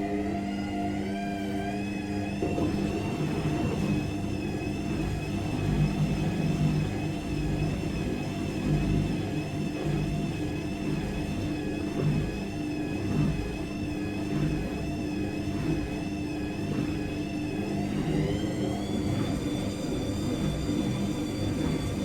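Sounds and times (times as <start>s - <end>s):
washing machine motor whine: 0.0s - 22.0s.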